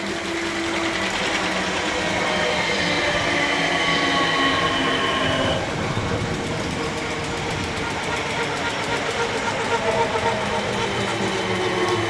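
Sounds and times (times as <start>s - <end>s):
electric traction motors whining: 0.0s - 12.0s
train wheels rumbling on rails: 0.0s - 12.0s.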